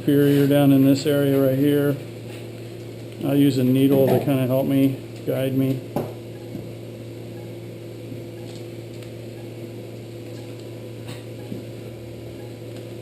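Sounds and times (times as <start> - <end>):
electrical equipment hum: 0.0 - 13.0.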